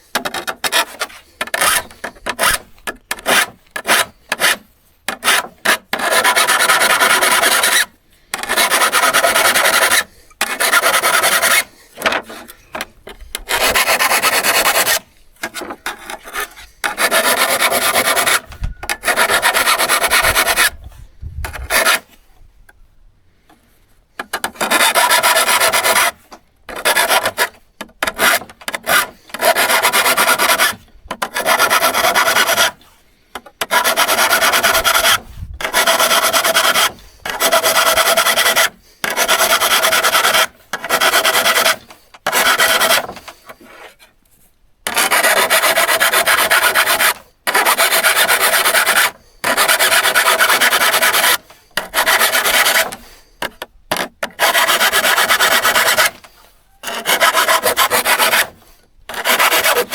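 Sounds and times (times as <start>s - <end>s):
saw blade being filed: 0.2s - 12.6s, 13.4s - 20.9s, 21.5s - 22.1s, 24.3s - 32.8s, 33.6s - 44.0s, 44.9s - 59.9s.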